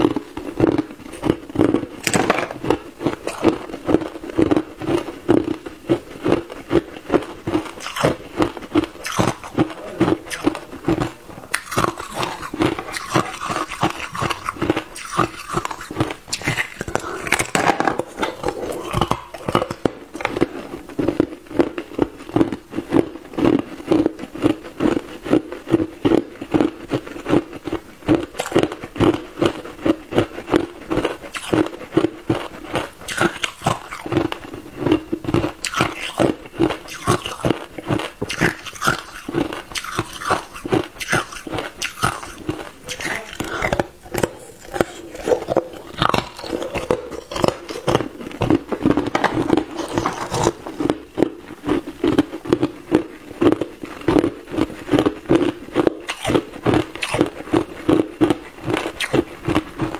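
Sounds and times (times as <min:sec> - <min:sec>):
ice cubes crunching: 0:00.0 - 0:59.9.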